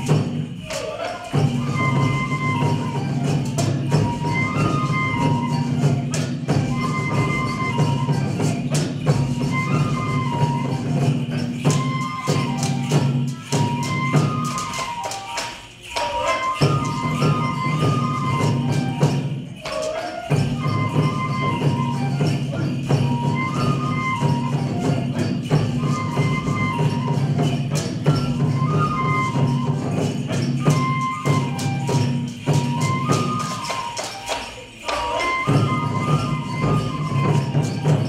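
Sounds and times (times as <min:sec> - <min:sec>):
high folk melody: 0:00.0 - 0:38.0
jingling percussion: 0:00.0 - 0:38.0
steady drumming: 0:00.0 - 0:38.0.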